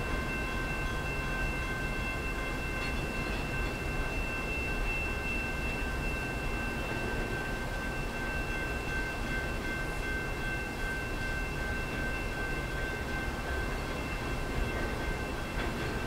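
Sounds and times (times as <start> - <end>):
distant train rumbling over bridge: 0.0 - 16.0
high-pitched ringing tone: 0.0 - 16.0.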